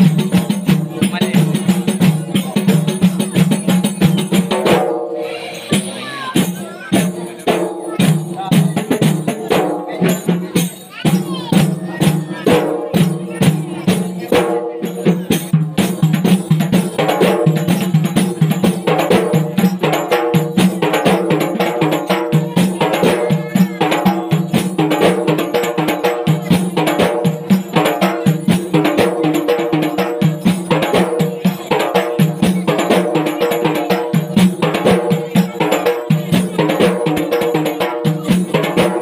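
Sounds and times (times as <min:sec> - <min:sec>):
frame drums beaten by hand: 0:00.0 - 0:39.0.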